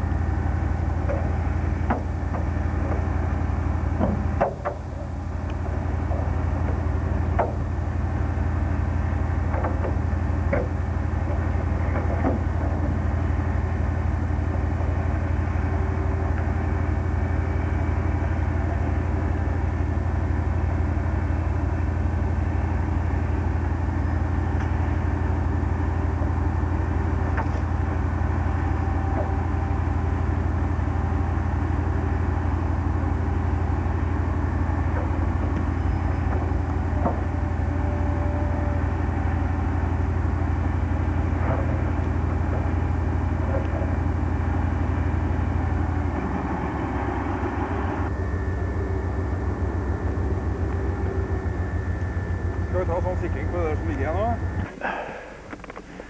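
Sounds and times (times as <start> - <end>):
heavy diesel engine idling: 0.0 - 56.0.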